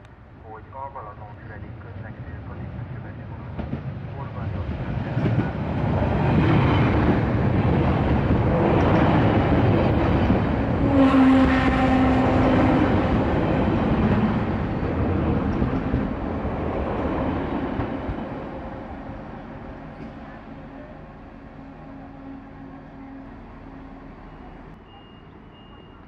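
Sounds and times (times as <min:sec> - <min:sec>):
train running past: 0:00.1 - 0:26.0.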